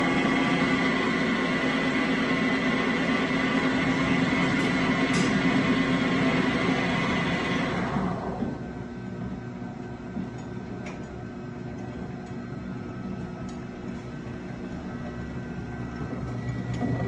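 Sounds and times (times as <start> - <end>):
machine motor drone and whine: 0.0 - 17.0.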